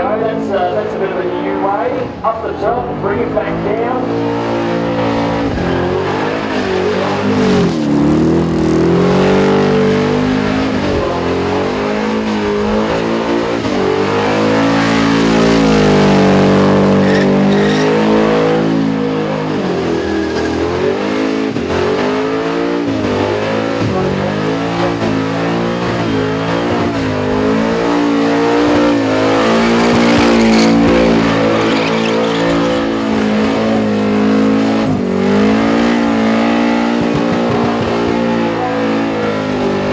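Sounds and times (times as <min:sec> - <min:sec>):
car engine revving in burnout: 0:00.0 - 0:39.9.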